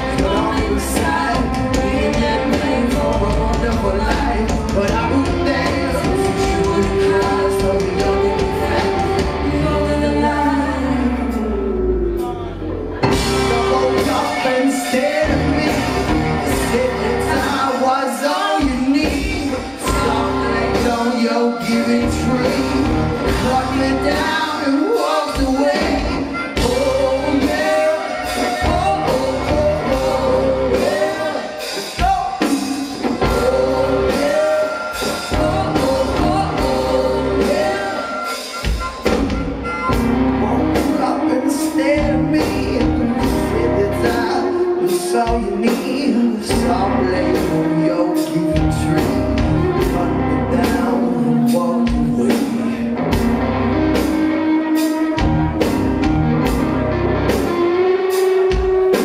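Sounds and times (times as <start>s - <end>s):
bass guitar: 0.0s - 59.0s
drums: 0.0s - 59.0s
electric guitar: 0.0s - 59.0s
person singing: 0.0s - 59.0s.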